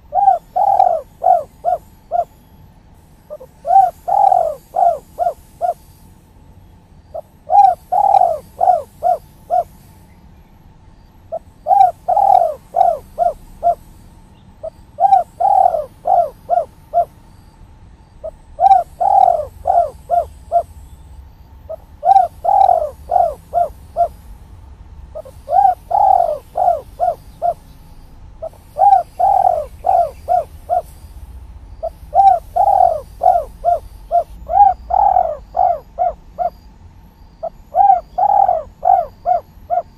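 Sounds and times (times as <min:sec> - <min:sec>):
dove cooing: 0:00.0 - 0:06.0, 0:07.1 - 0:10.0, 0:11.3 - 0:14.0, 0:14.6 - 0:17.2, 0:18.2 - 0:20.8, 0:21.7 - 0:24.3, 0:25.1 - 0:31.1, 0:31.8 - 0:36.7, 0:37.4 - 0:39.9.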